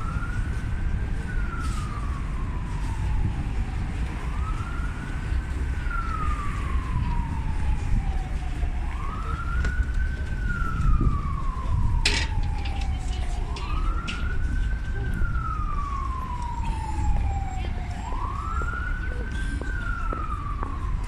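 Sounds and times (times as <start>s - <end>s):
low rumble of street noise: 0.0s - 21.0s
siren wailing: 0.0s - 21.0s.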